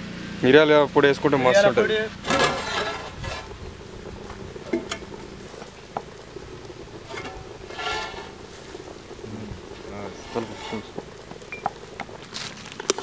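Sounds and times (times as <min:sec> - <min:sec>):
soup simmering in a pot: 0:02.2 - 0:13.0.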